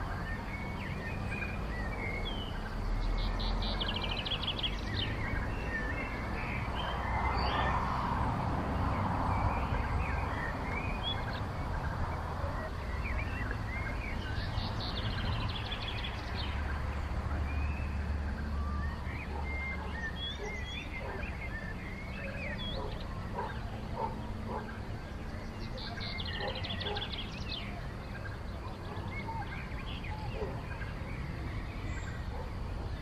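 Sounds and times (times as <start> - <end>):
songbirds chirping and singing: 0.0 - 33.0.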